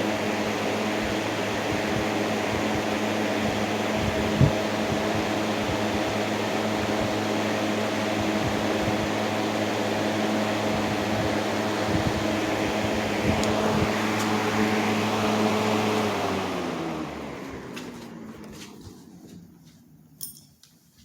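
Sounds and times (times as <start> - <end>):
box fan running: 0.0 - 21.0.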